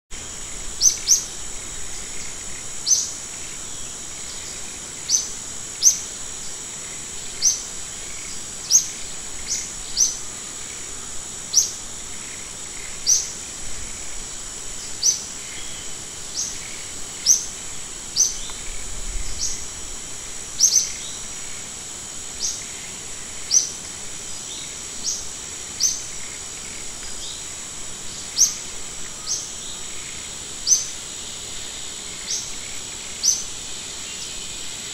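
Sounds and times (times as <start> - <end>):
steady high-pitched hiss: 0.1 - 34.9.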